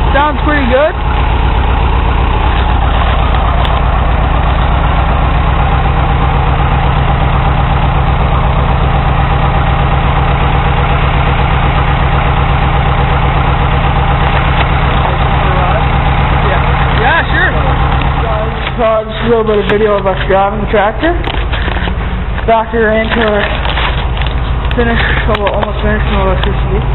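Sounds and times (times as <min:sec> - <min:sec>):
tractor engine idling: 0:00.0 - 0:26.9.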